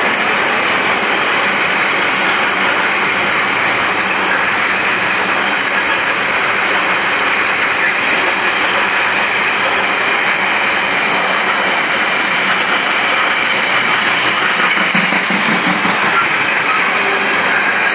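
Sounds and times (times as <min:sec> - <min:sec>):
freight train wheels rumbling on rail: 0:00.0 - 0:17.9.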